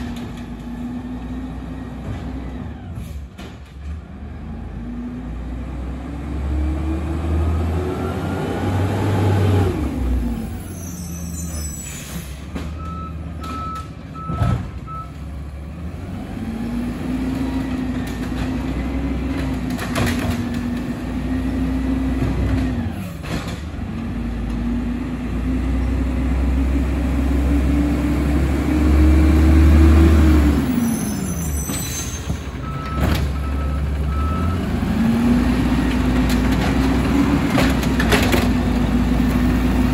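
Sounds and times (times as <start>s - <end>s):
garbage truck diesel engine revving: 4.0s - 14.4s, 15.1s - 31.6s, 32.4s - 39.9s.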